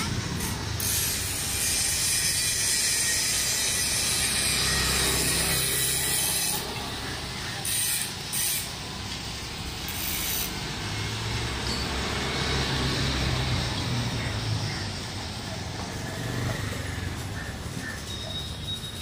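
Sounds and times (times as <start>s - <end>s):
passing road traffic: 0.0s - 19.0s.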